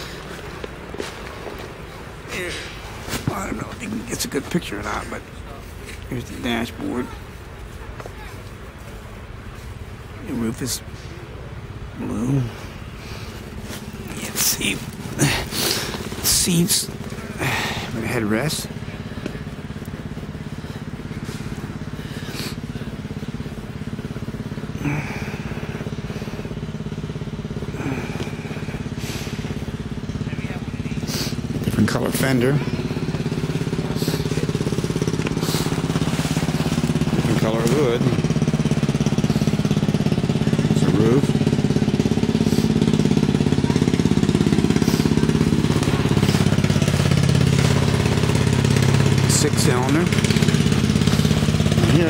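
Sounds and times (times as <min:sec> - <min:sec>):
engine running with pulsing drone: 0:00.0 - 0:52.0.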